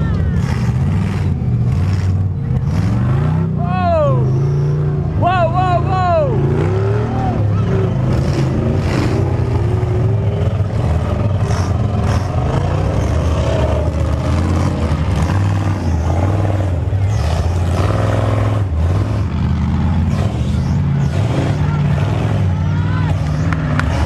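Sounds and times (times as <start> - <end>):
buggy engines running under load: 0.0 - 24.0.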